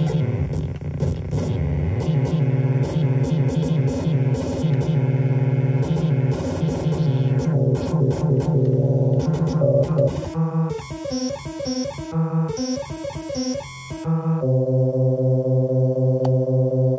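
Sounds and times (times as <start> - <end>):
buzzy synthesizer drone: 0.0 - 16.9
repeating synthesizer notes: 0.0 - 16.9.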